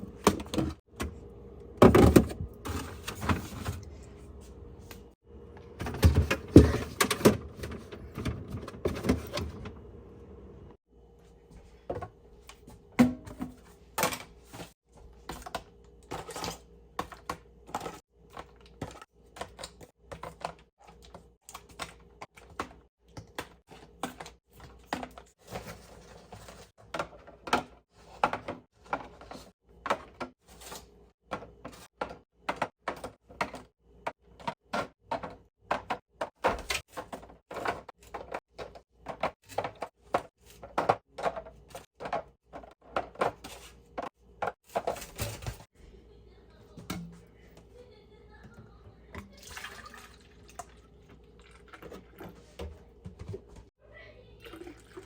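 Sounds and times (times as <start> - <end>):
groceries and containers clacking: 0.0 - 1.2, 1.8 - 9.9, 11.8 - 45.8, 48.4 - 53.7.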